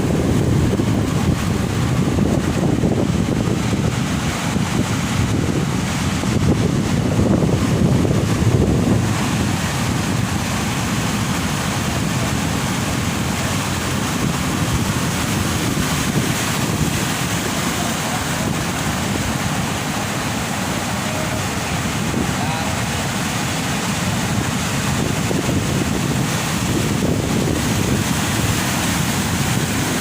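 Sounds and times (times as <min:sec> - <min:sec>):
ocean surf breaking on shore: 0:00.0 - 0:30.0
wind buffeting microphone: 0:00.0 - 0:30.0.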